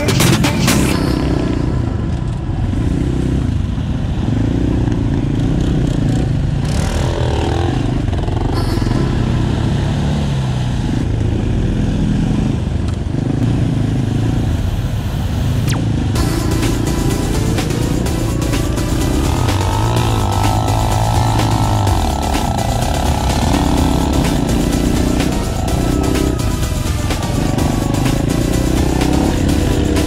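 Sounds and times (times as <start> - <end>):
motorcycle engine revving: 0.0 - 14.8, 15.6 - 30.0.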